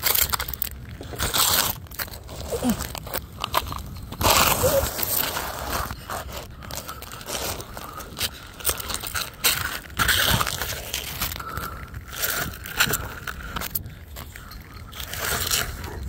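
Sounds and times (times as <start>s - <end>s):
frozen grass crunching: 0.0s - 16.0s.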